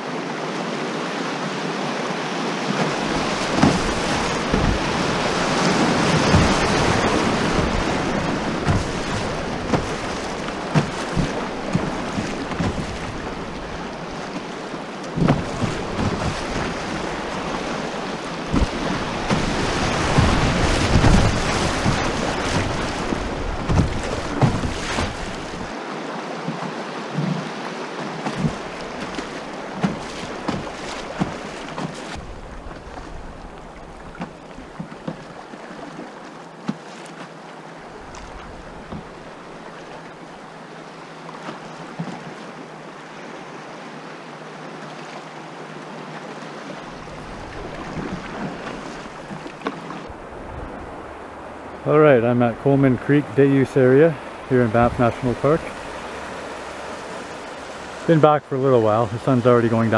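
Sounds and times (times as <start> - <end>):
river rapids rushing: 0.0 - 59.9
water splashes and knocks: 2.0 - 43.2, 44.6 - 51.2, 54.0 - 59.9.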